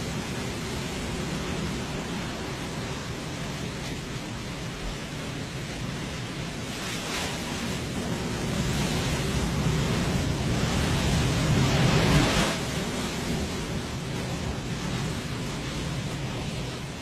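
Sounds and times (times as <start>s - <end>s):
sea surf washing onto beach: 0.0s - 17.0s.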